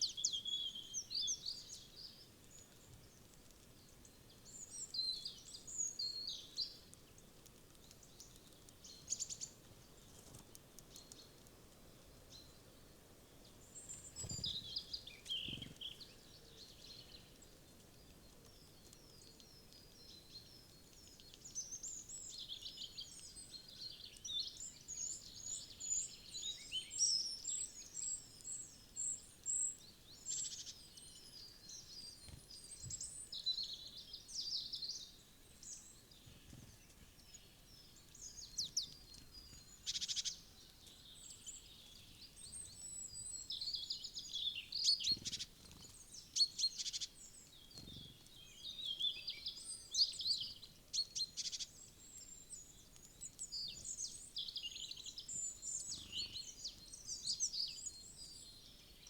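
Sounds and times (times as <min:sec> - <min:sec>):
faint background hiss: 0:00.0 - 0:59.0
small birds chirping: 0:00.0 - 0:59.0.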